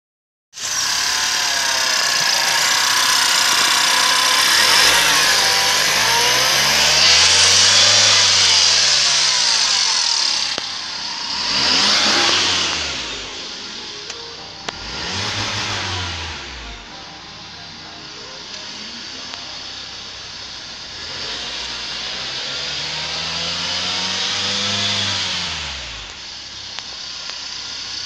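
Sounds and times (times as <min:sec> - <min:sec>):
car engine running and revving: 0:00.6 - 0:28.0.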